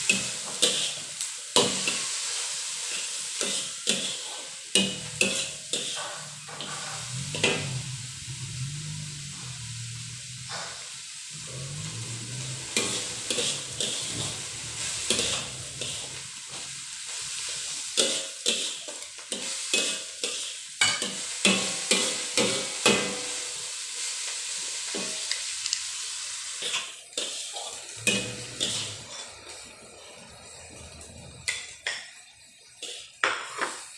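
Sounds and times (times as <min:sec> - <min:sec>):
spatula scraping wok: 0:00.0 - 0:33.9
vegetables sizzling in wok: 0:00.0 - 0:33.9.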